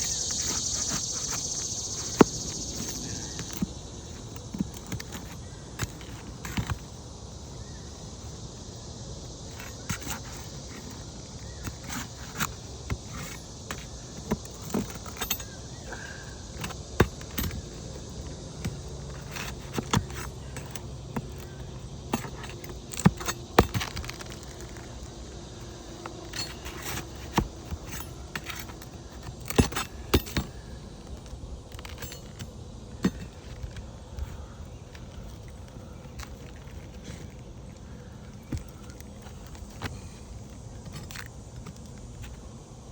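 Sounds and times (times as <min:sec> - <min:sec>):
pry bar clinking on shingles: 0:00.0 - 0:07.1, 0:09.4 - 0:42.4.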